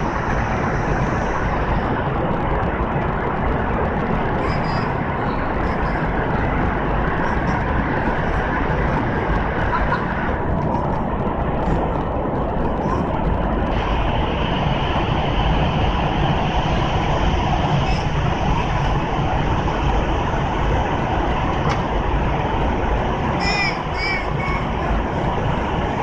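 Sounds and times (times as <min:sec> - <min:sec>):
airliner cabin engine hum: 0:00.0 - 0:26.0.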